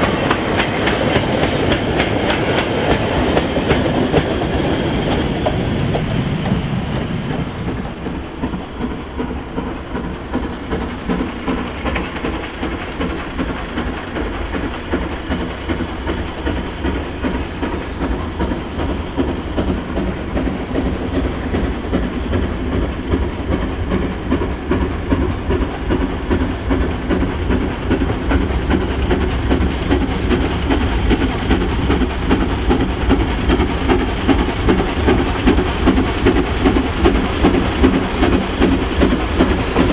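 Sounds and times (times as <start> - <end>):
steam locomotive exhaust beats: 0.0 - 39.9
train wagons rumbling: 0.0 - 39.9.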